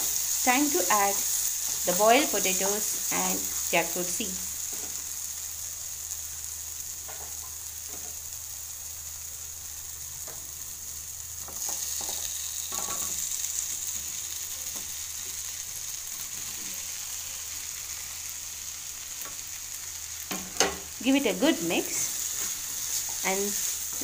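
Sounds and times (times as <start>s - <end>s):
masala sizzling in a frying pan: 0.0s - 24.0s.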